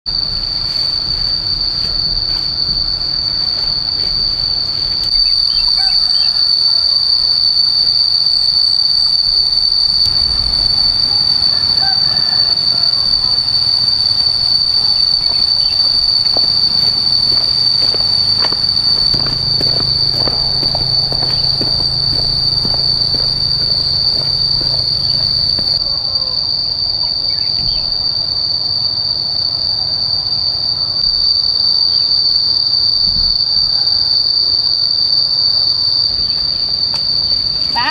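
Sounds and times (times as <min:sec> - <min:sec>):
insects droning: 0:00.0 - 0:37.9.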